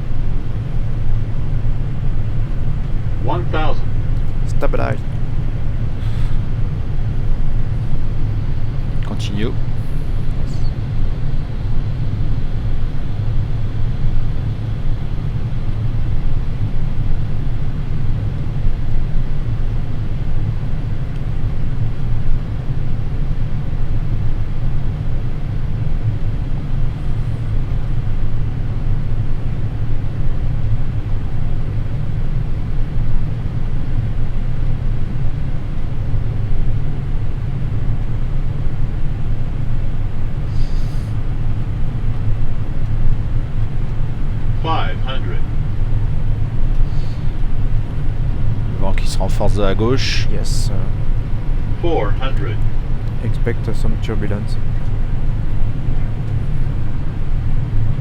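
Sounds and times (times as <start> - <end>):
airflow and engine rumble: 0.0 - 58.0.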